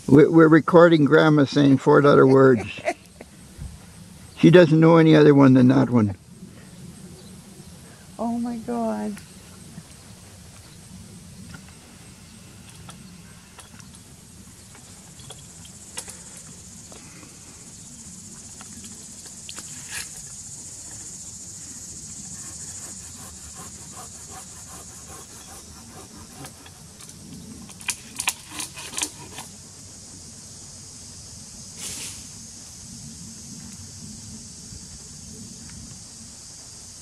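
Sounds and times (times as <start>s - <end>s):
high-pitched insect drone: 0.1s - 37.0s.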